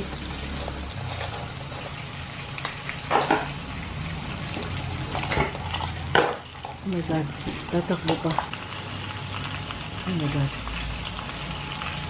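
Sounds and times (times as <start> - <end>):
seafood sizzling in a wok: 0.0 - 12.0.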